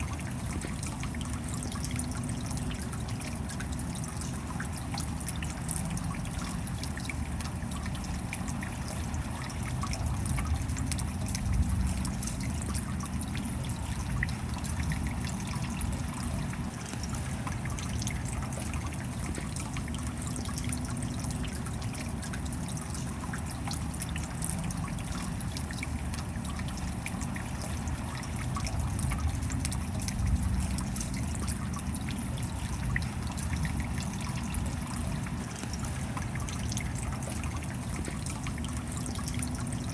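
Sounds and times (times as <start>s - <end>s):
steady rain dripping: 0.0s - 39.9s.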